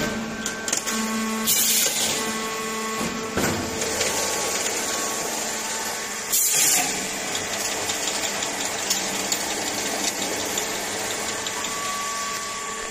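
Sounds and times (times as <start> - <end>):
machine mechanical hum: 0.0 - 12.9.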